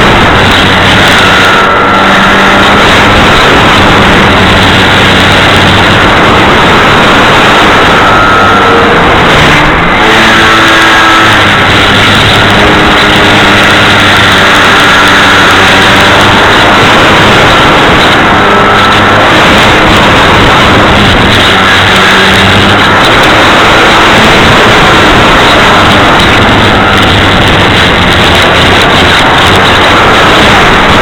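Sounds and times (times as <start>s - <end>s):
model plane motor and propeller: 0.0s - 31.0s
wind rush: 0.0s - 31.0s.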